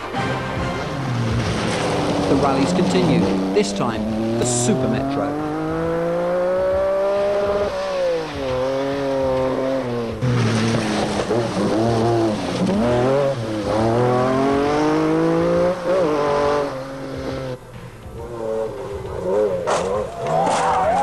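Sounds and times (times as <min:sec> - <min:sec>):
rally car engines revving: 0:00.8 - 0:21.0.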